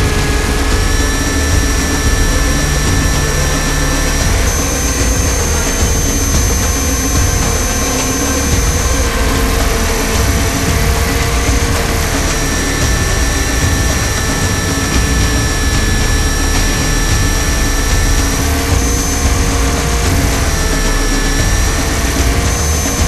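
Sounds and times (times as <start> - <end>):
model helicopter whine and rumble: 0.0 - 23.0.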